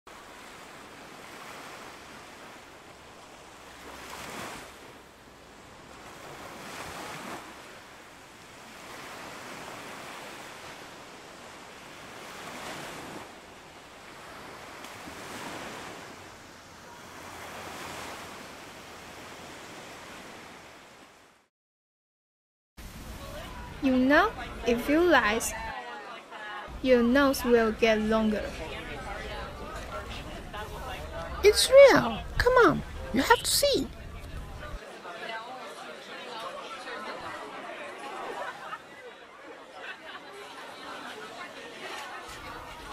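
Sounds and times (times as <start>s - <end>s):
ocean waves and surf: 0.1s - 21.5s, 22.8s - 42.9s.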